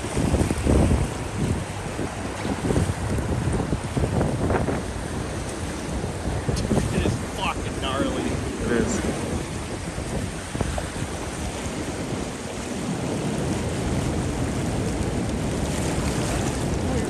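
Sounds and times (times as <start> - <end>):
blizzard wind on microphone: 0.0 - 17.0.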